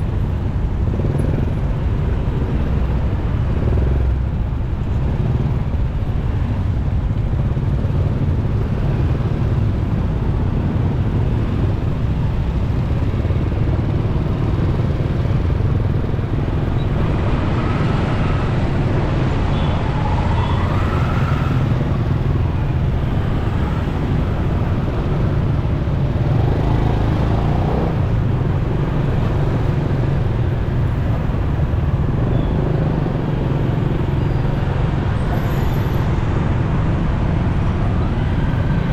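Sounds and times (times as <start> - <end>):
motorcycle engine rumble: 0.0 - 35.3
engines whining: 0.0 - 38.9.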